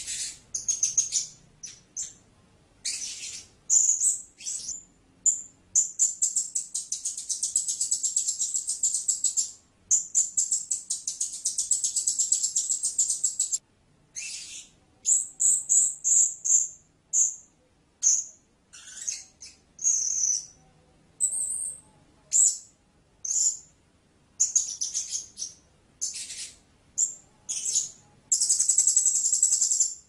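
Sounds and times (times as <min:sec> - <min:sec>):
parrot chirping and trilling: 0:00.0 - 0:02.2, 0:02.8 - 0:20.6, 0:21.2 - 0:23.7, 0:24.4 - 0:30.0.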